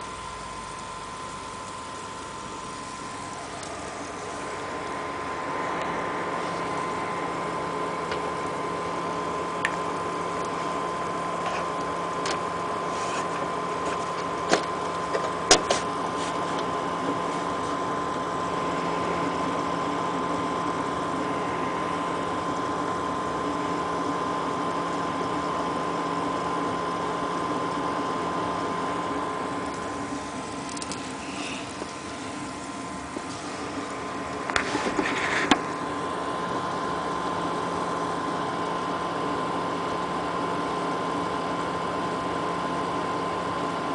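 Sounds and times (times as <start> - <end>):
water pump whine and hum: 0.0 - 43.9.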